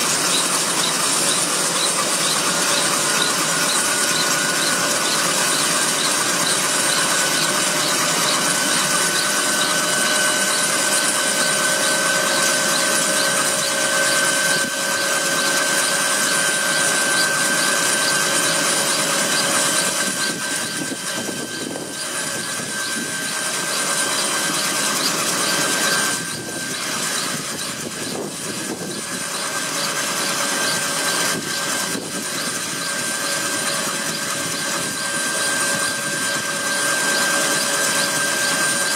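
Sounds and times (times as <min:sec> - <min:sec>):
engine and rotor rush: 0:00.0 - 0:38.9
helicopter turbine whine: 0:00.0 - 0:38.9.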